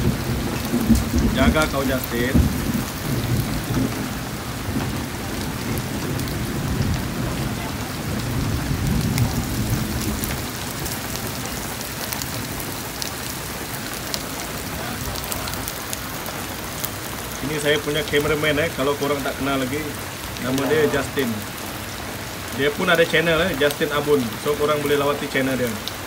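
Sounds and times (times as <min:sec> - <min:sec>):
low rumble of thunder: 0:00.0 - 0:22.6
heavy rain pouring: 0:00.0 - 0:26.0.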